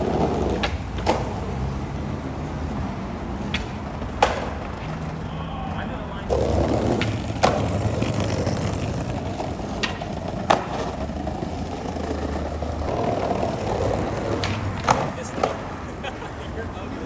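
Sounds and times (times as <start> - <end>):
skateboard clacks: 0.0 - 17.0
skateboard wheels rolling on pavement: 0.0 - 17.0.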